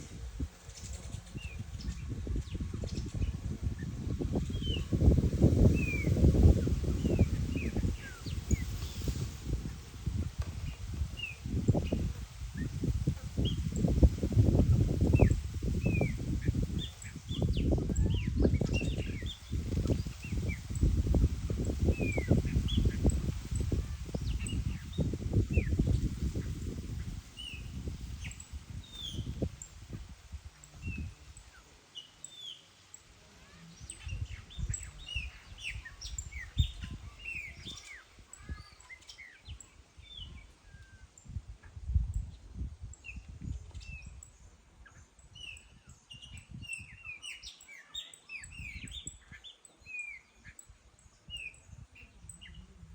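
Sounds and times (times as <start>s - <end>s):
songbirds chirping and singing: 0.0s - 52.9s.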